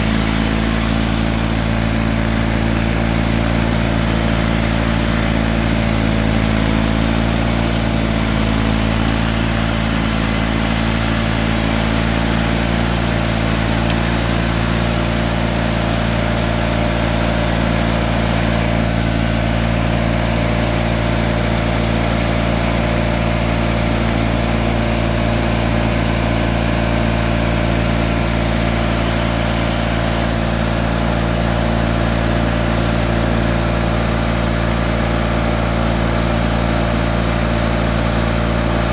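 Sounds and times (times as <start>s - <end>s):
snowblower throwing snow: 0.0s - 38.9s
tractor engine running: 0.0s - 38.9s.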